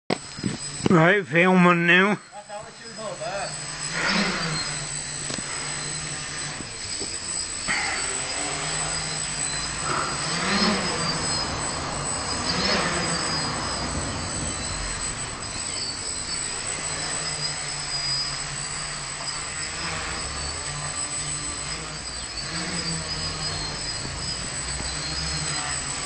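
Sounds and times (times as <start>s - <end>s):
quadcopter motors humming and revving: 0.1s - 26.0s.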